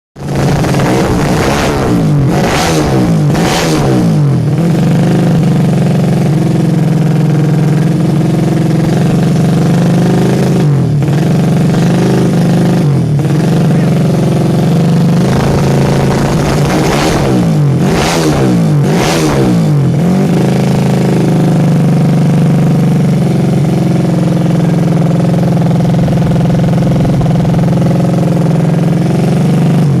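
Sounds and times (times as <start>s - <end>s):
motorcycle engine revving and idling: 0.2s - 30.0s.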